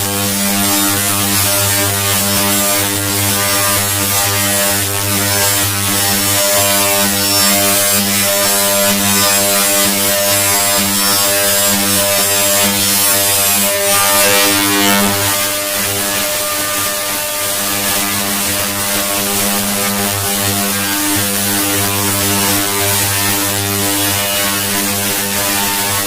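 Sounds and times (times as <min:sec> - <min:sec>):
distorted buzzing drone: 0:00.0 - 0:26.0.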